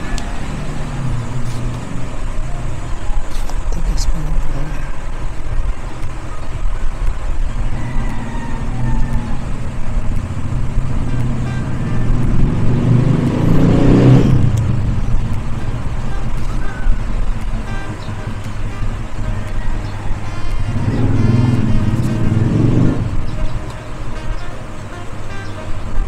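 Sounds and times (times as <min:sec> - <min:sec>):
vehicle engine rumble passing: 0:00.0 - 0:26.0.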